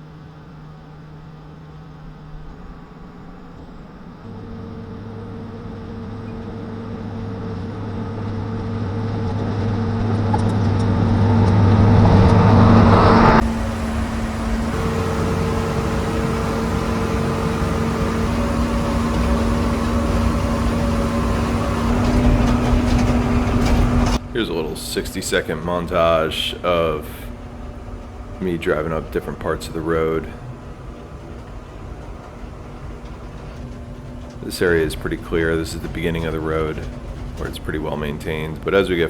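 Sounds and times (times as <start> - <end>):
diesel engine approaching: 0.0 - 39.0
steady engine running: 0.0 - 39.0.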